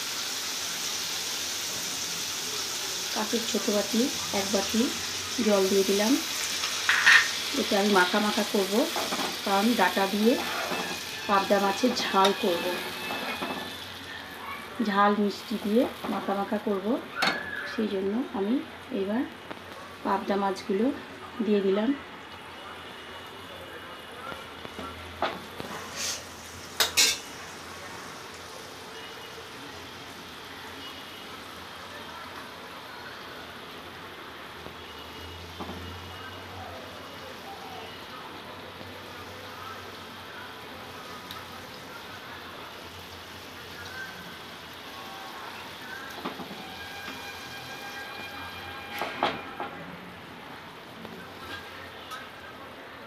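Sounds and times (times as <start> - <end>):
gravy simmering hiss: 0.0 - 53.0.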